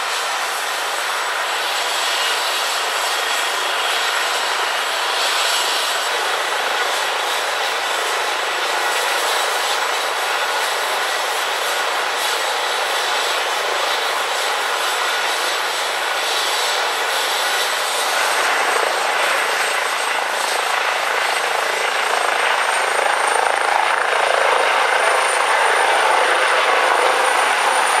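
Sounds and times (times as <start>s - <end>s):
helicopter turbine and rotor: 0.0s - 28.0s.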